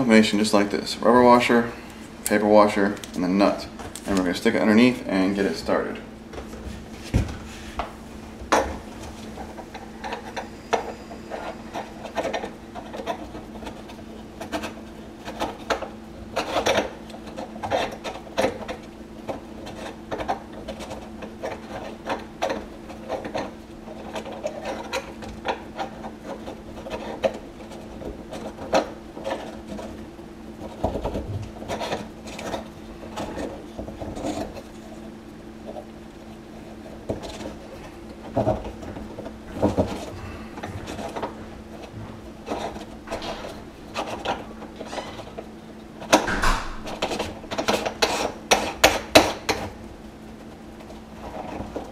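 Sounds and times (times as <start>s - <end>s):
steady low hum: 0.0s - 51.9s
scraping and rubbing of fittings: 6.4s - 51.9s.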